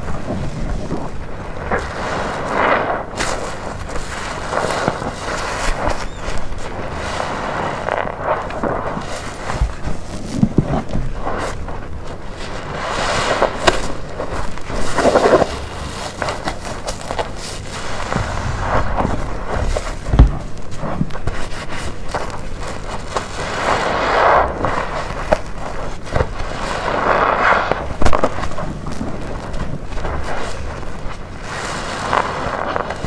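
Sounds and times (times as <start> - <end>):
wet sponge squelching: 0.0 - 33.0.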